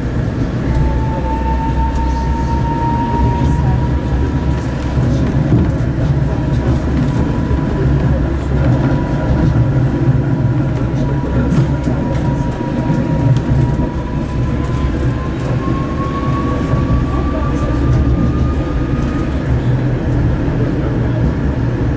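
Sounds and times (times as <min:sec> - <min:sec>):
tram wheels rumbling on rail: 0:00.0 - 0:21.9
tram whine: 0:00.0 - 0:21.9.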